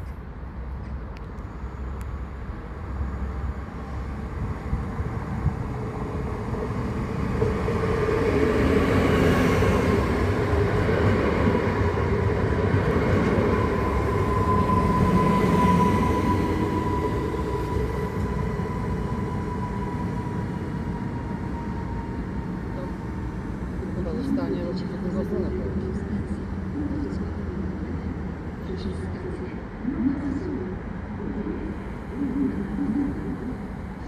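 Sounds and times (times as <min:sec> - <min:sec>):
train whine: 0:00.6 - 0:34.0.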